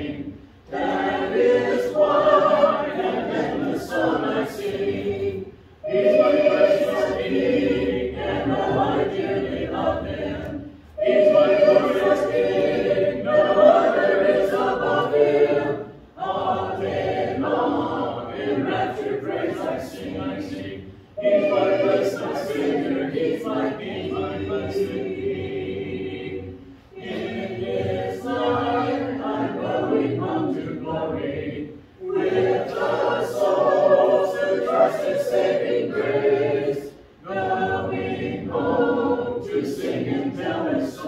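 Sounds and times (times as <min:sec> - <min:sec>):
congregation singing a hymn: 0:00.0 - 0:41.0.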